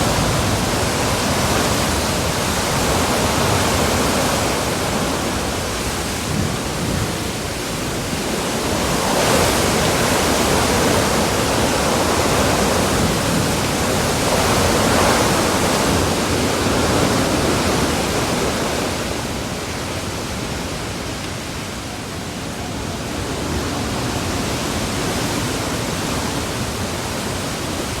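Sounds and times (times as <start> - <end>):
rain: 0.0 - 28.0
strong wind: 0.0 - 28.0.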